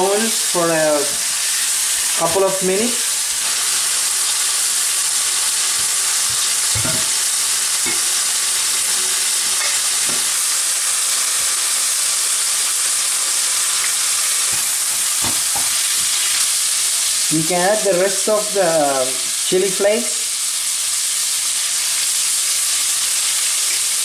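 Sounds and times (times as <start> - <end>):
prawns sizzling in oil: 0.0 - 24.0.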